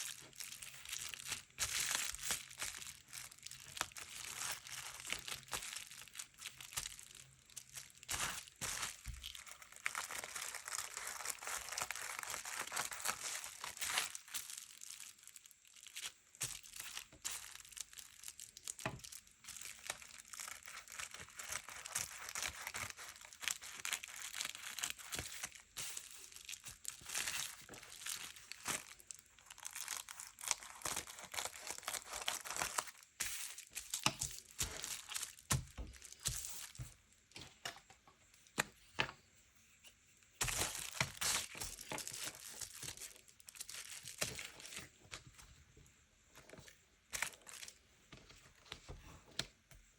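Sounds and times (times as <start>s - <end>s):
paper crinkling and tearing: 0.0s - 36.8s, 40.4s - 44.9s.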